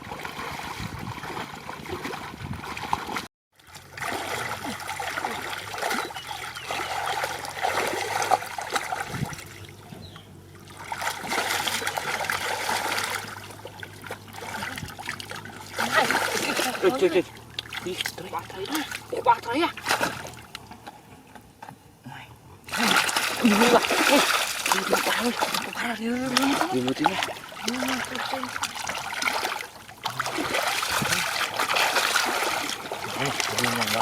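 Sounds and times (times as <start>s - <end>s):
water splashing and trickling: 0.0s - 21.4s, 22.6s - 34.0s.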